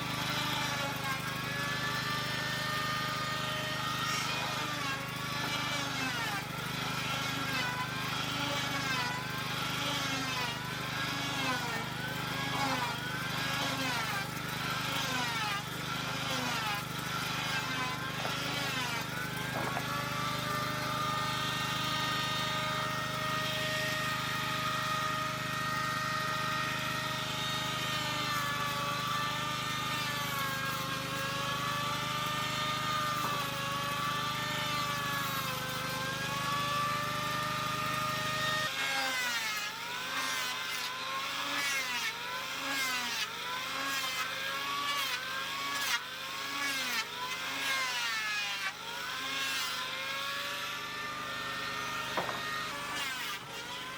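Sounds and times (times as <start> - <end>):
small motor running: 0.0 - 53.9.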